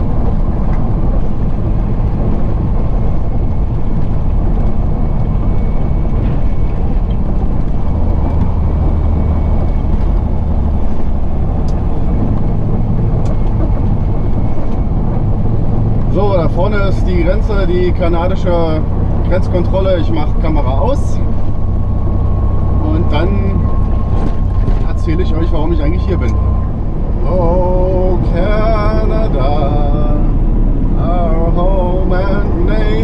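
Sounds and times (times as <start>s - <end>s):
deep hum: 0.0s - 33.0s
truck engine and tyre drone: 0.0s - 33.0s.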